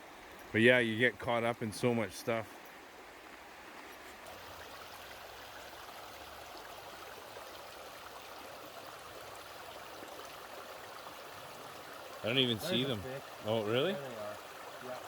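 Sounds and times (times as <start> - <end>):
creek flowing over rocks: 0.0 - 15.0.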